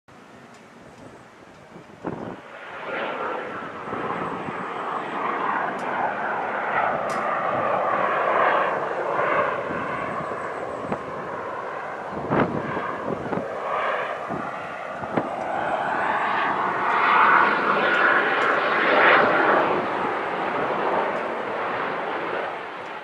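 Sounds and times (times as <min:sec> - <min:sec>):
jet engine roaring: 0:00.2 - 0:23.0.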